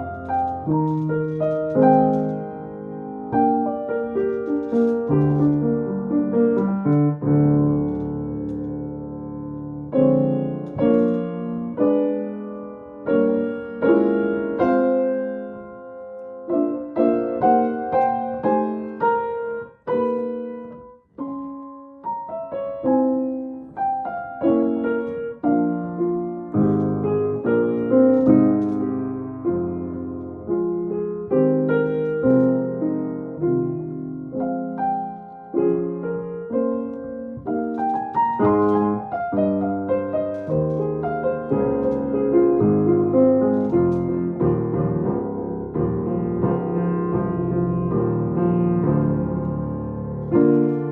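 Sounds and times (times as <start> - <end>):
piano improvisation: 0.0 - 50.9.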